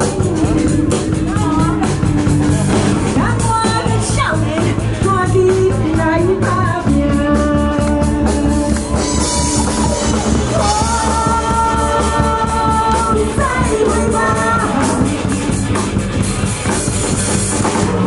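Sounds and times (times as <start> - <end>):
person singing: 0.0 - 2.3, 3.0 - 15.9
live band playing pop song: 0.0 - 18.0.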